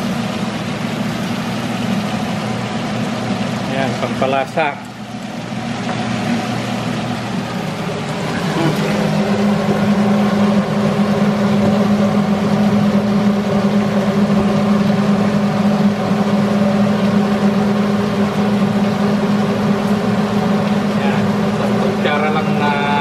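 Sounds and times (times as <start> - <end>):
exhaust fan humming: 0.0 - 23.0.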